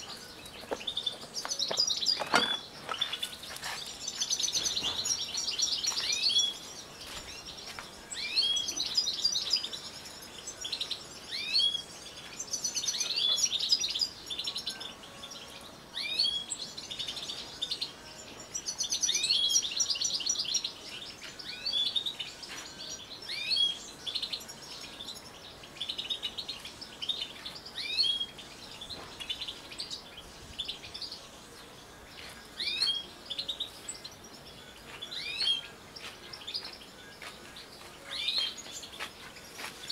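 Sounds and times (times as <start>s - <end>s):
finches twittering song: 0.0s - 39.9s.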